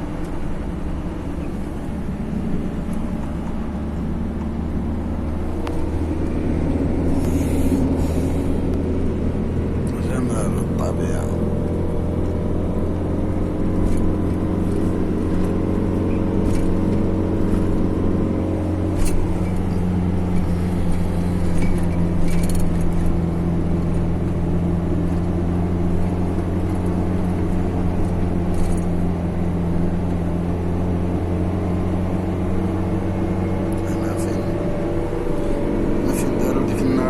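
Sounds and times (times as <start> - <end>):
car engine hum: 0.0 - 37.0
road noise: 0.0 - 37.0.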